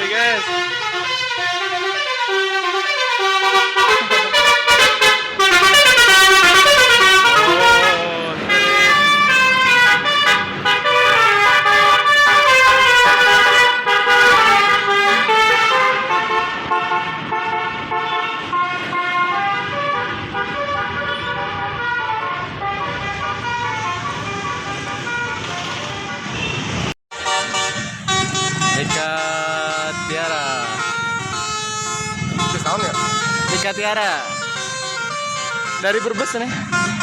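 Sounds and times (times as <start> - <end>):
musical air horn melody: 0.0 - 37.0.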